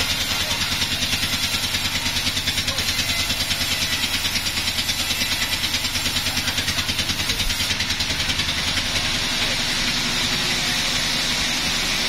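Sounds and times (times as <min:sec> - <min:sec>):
sawmill engine pulsing: 0:00.0 - 0:12.0.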